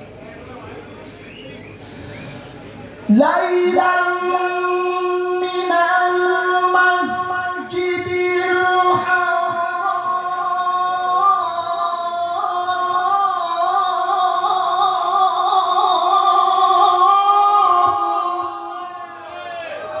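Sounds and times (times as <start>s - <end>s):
melodic recitation over loudspeakers: 1.4s - 20.0s.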